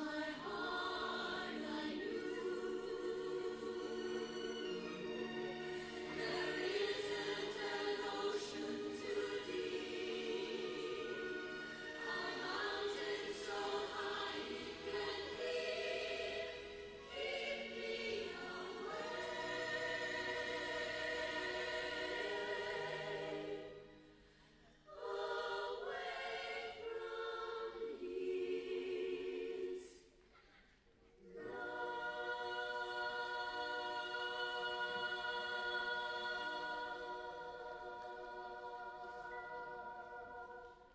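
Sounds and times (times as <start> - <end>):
choir singing held chords: 0.0 - 30.1, 31.2 - 40.9.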